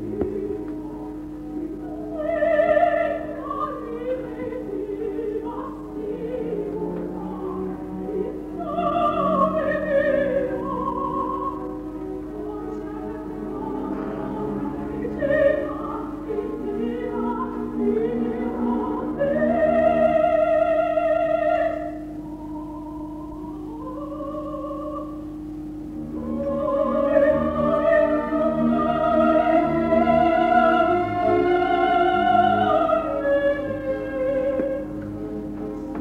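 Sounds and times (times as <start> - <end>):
orchestra playing: 0.0 - 20.2, 25.7 - 36.0
soprano singing opera: 0.0 - 25.3, 26.0 - 36.0.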